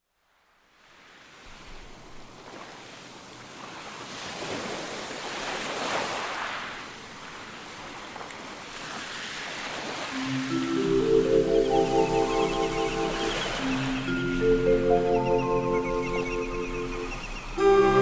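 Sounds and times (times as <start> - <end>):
sea waves surging: 0.8 - 18.0.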